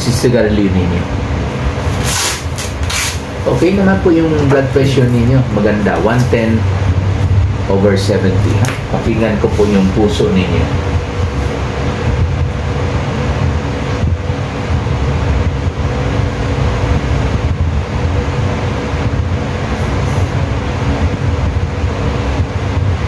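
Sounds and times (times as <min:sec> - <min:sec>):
low rumbling machinery hum: 0:00.0 - 0:23.0.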